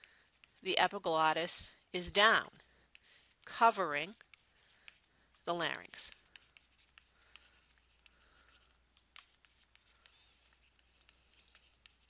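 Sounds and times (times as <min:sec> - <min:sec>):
stylus scratching on tablet: 0:00.0 - 0:12.0.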